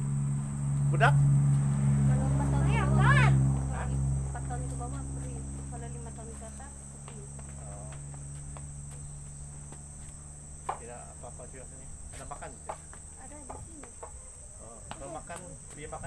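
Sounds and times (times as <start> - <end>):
insects droning: 0.0 - 16.0
low steady hum: 0.0 - 16.0.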